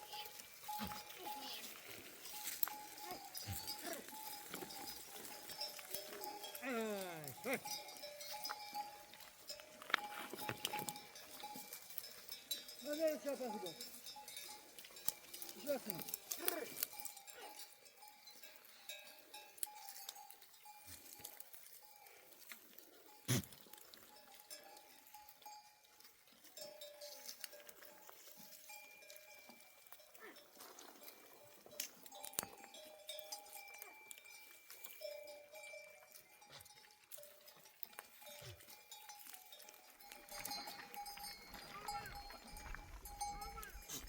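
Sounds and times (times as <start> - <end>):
sheep bells clinking: 0.0 - 44.0.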